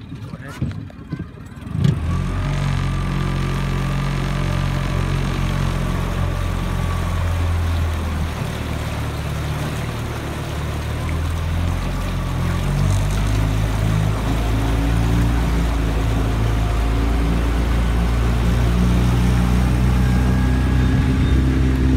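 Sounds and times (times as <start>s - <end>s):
outboard motor running: 0.0s - 21.9s
water churning at boat stern: 0.0s - 21.9s.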